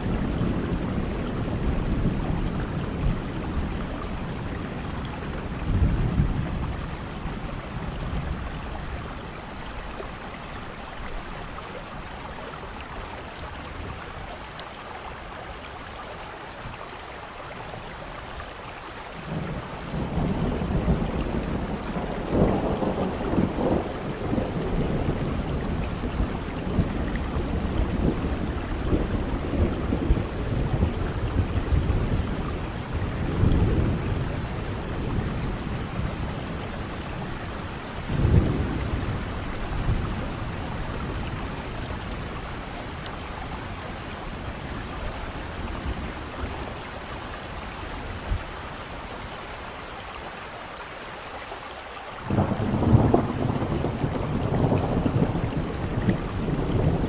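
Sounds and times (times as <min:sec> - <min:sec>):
low rolling thunder: 0:00.0 - 0:14.4, 0:19.2 - 0:49.4, 0:52.2 - 0:57.0
steady rain: 0:00.0 - 0:57.0.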